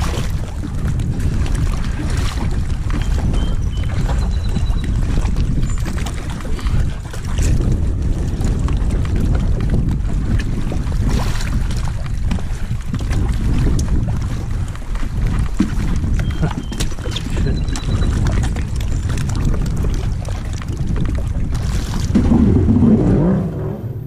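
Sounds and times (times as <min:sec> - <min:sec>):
water sloshing against hull: 0:00.0 - 0:24.0
wind buffeting microphone: 0:00.0 - 0:24.0.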